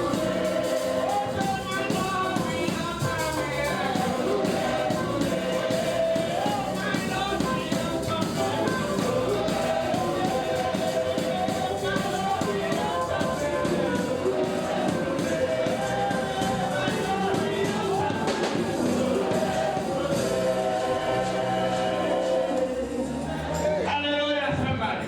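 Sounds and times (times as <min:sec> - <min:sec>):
church praise music: 0:00.0 - 0:25.0.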